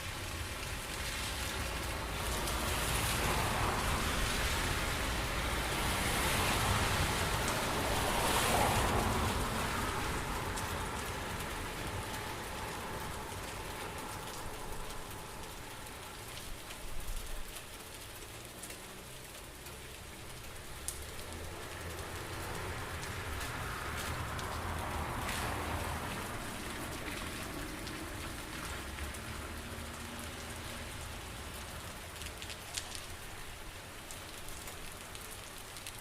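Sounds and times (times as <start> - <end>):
raindrops pattering close by: 0.0 - 36.0
steady rain hiss: 0.0 - 36.0.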